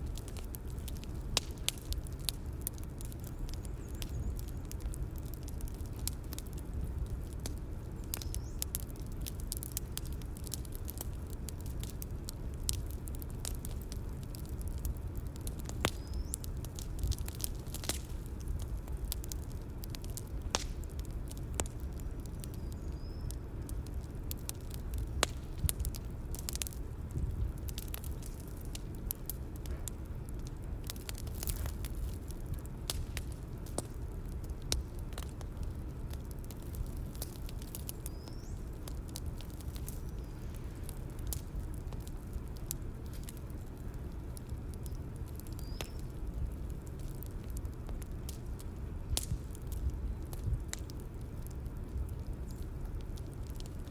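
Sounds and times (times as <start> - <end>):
bonfire burning rumble: 0.0 - 53.9
fire crackles and pops: 0.0 - 53.9.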